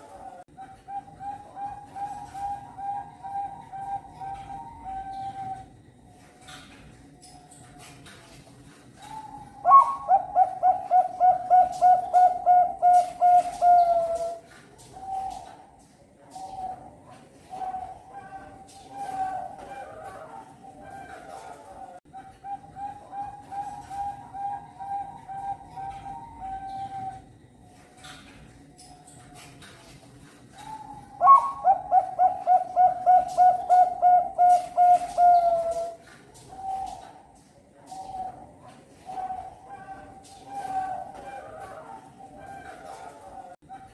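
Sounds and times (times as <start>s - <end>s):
dove cooing: 0.0s - 6.0s, 9.0s - 28.4s, 30.5s - 43.9s.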